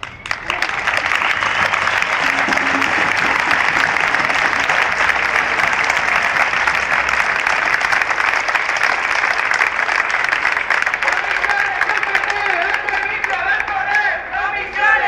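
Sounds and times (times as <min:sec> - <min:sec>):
crowd applauding: 0:00.0 - 0:14.1.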